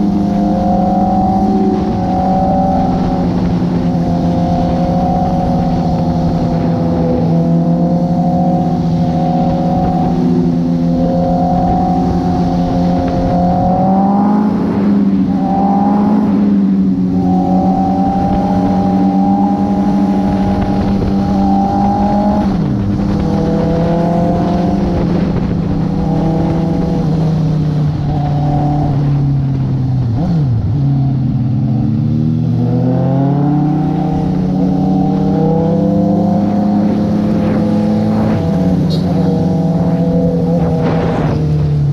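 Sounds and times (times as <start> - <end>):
motorcycle engine revving: 0.0 - 41.9
wind rush: 0.0 - 41.9.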